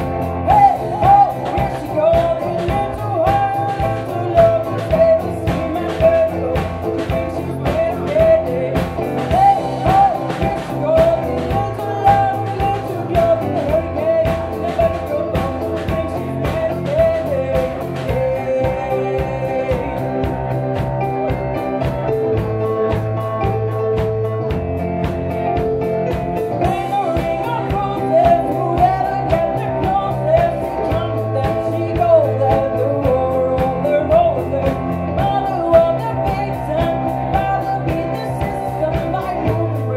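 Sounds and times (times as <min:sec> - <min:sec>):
woman singing: 0:00.0 - 0:23.8, 0:25.5 - 0:39.9
live rock band playing: 0:00.0 - 0:39.9.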